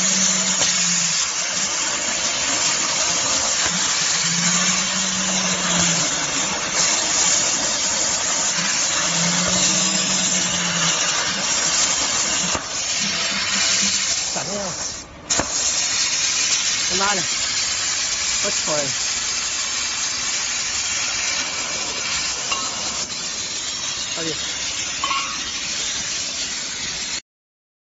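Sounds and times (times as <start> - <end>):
plasma torch arc hissing: 0.0 - 27.2.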